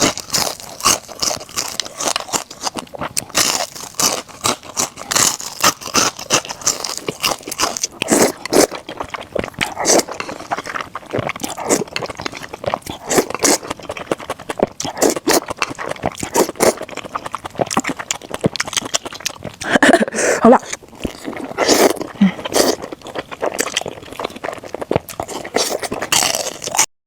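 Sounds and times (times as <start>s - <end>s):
chewing crispy food: 0.0s - 26.9s.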